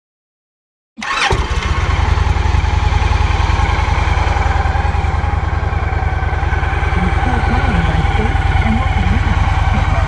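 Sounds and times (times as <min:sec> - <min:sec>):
motorcycle engine starting and idling: 0:01.0 - 0:10.0.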